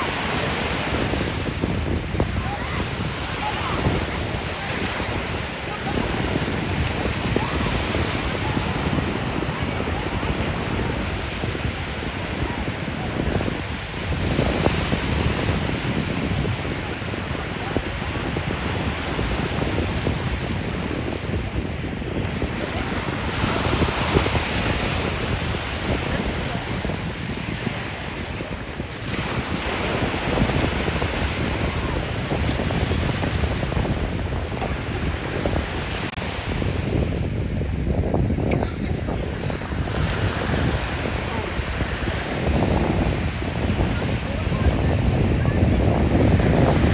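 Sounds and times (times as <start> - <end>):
ocean surf washing: 0.0 - 46.9
wind buffeting microphone: 0.0 - 46.9.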